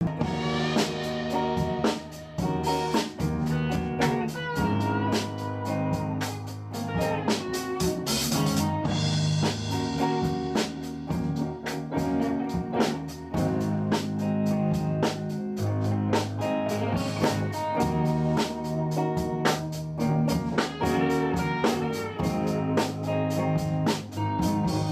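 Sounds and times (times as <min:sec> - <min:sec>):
blues guitar: 0:00.0 - 0:24.9
drum beat: 0:00.0 - 0:24.9.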